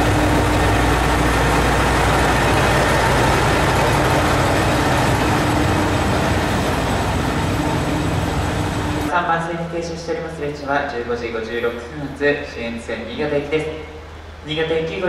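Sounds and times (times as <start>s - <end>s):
diesel railcar engines running: 0.0s - 12.2s, 13.0s - 14.8s.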